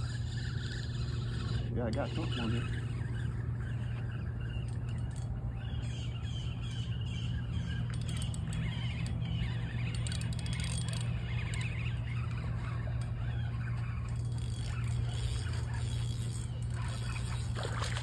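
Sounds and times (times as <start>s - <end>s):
fishing reel clicking: 0.0s - 5.4s, 7.3s - 18.0s
steady low hum: 0.0s - 18.0s.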